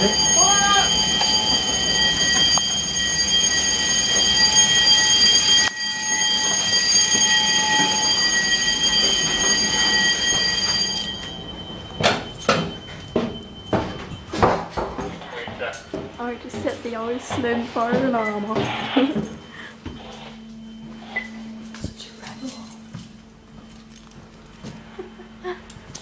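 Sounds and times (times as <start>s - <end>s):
fire alarm high-pitched tone: 0.0s - 26.0s.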